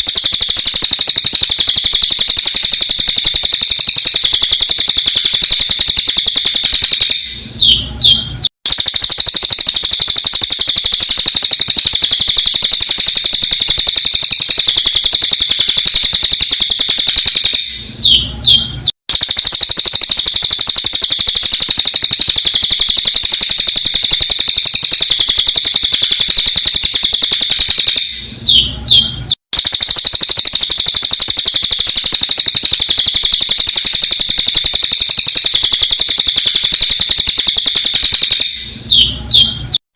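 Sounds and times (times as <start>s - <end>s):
bird singing rapid high chirps: 0.0s - 39.6s.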